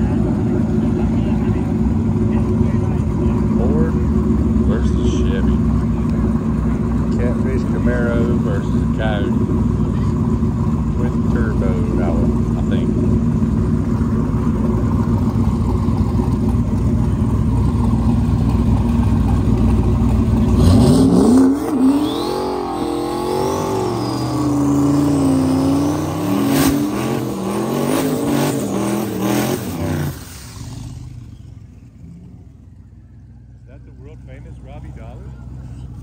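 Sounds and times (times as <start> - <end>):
drag car engine revving: 0.0 - 36.0.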